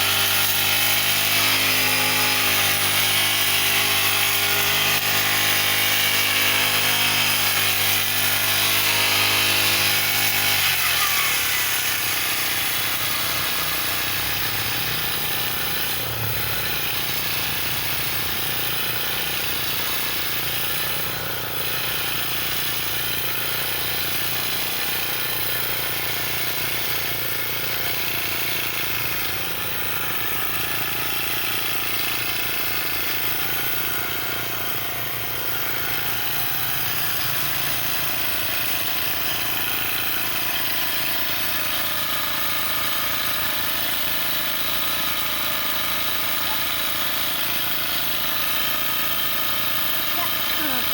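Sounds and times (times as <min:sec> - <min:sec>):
brush cutter engine running: 0:00.0 - 0:50.9.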